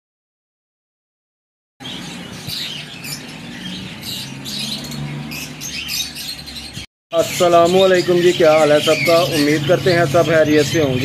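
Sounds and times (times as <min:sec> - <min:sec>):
caged birds chirping: 0:01.8 - 0:11.0.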